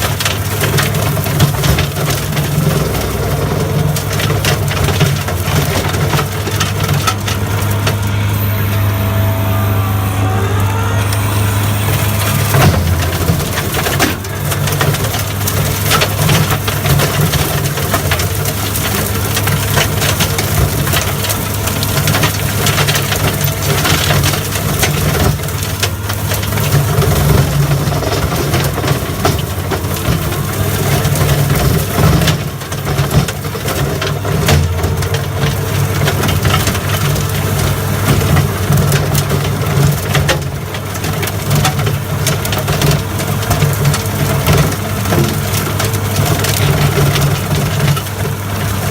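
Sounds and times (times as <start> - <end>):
wood cracking: 0.0 - 8.5, 10.0 - 48.9
brush cutter shredding brush: 0.0 - 48.9
diesel engine under load: 0.0 - 48.9.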